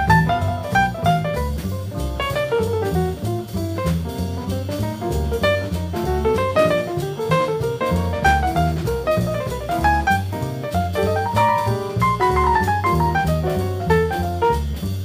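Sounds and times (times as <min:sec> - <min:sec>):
double bass: 0:00.0 - 0:15.0
jazz drum kit: 0:00.0 - 0:15.0.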